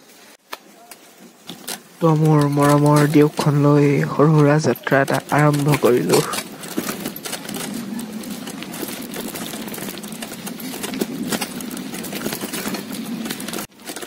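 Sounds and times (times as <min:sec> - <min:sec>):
bicycle low rumble: 0:00.0 - 0:14.0
bicycle chain clicking: 0:01.4 - 0:14.0.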